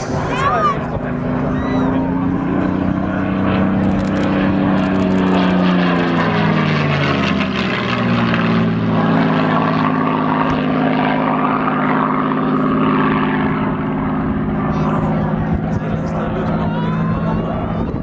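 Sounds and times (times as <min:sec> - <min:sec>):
propeller plane passing overhead: 0:00.0 - 0:18.0.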